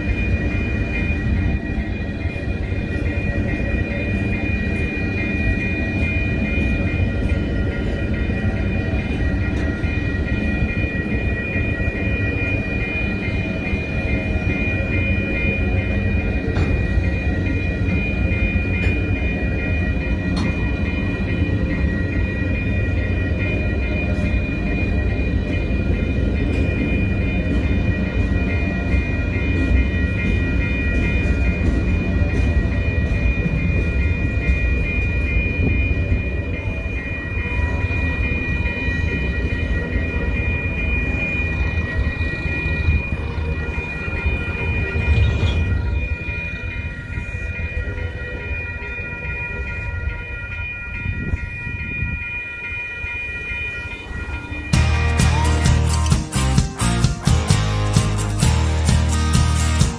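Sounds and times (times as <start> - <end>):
crossing warning bell ringing: 0.0 - 59.9
train wheels rumbling on rail: 0.0 - 59.9.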